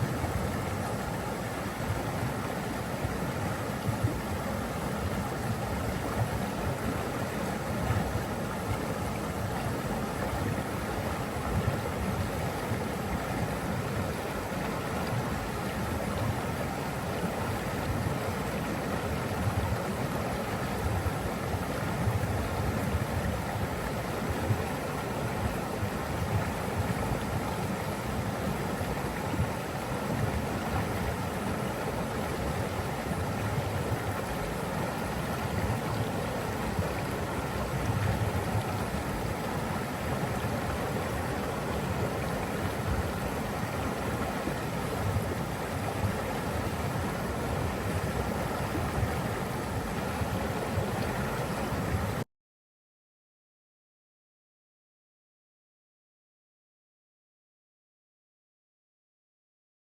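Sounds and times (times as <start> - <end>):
water flowing: 0.0 - 52.2.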